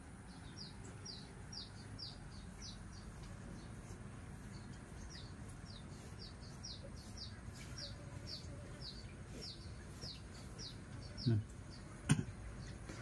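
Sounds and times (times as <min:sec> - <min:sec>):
small bird chirping: 0:00.2 - 0:13.0.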